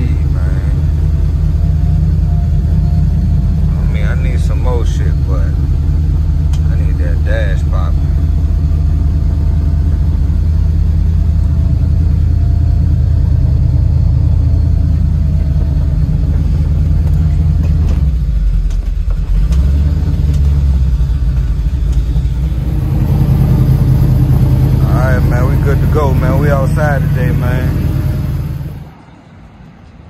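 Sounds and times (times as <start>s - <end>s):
car engine idling: 0.0s - 29.3s.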